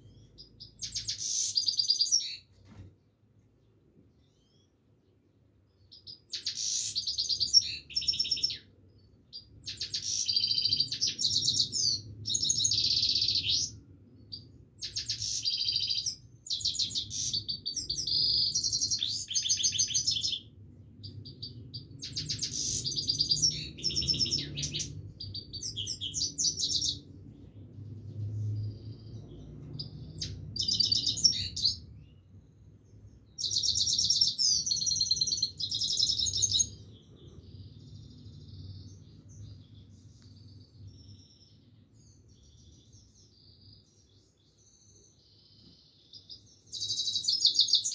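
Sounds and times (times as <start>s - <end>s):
goldfinch twittering song: 0.1s - 2.5s, 5.9s - 8.6s, 9.3s - 27.1s, 28.4s - 32.2s, 33.2s - 47.9s.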